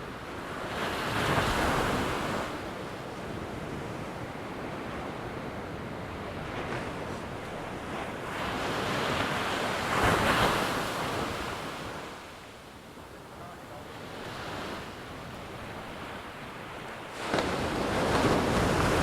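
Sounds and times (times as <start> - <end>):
ocean waves washing: 0.0 - 19.0.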